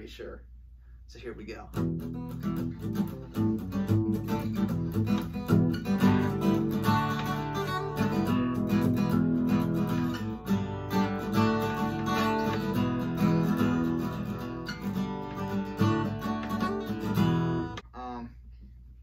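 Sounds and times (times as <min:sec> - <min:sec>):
acoustic guitar strumming: 0:01.7 - 0:17.8.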